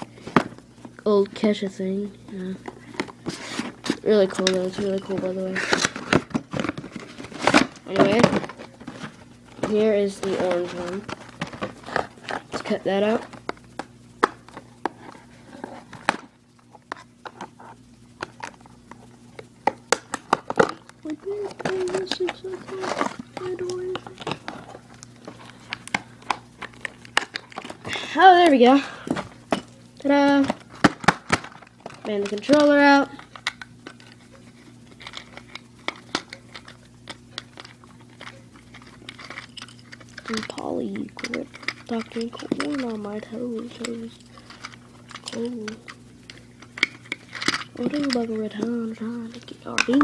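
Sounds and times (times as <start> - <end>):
plastic packaging rustling: 2.4 - 13.7, 20.0 - 50.0.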